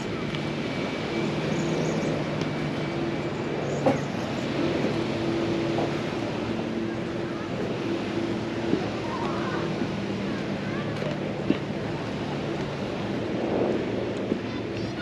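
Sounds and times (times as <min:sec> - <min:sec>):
faint voices: 0:00.0 - 0:15.0
motor hum: 0:00.0 - 0:15.0.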